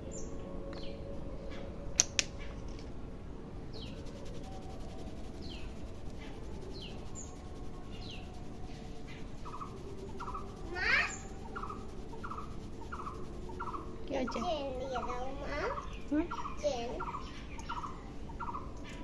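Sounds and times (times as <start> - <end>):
outdoor background noise: 0.0 - 19.0
small bird chirping: 3.7 - 19.0.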